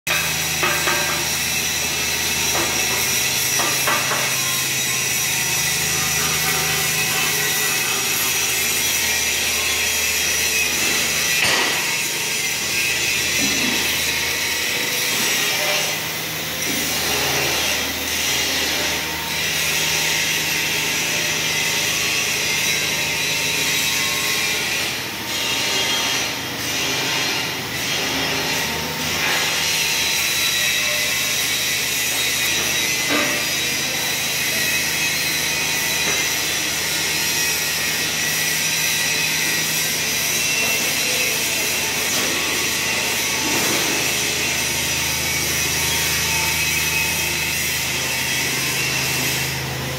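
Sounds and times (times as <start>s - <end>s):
brick making machine droning: 0.1s - 49.9s.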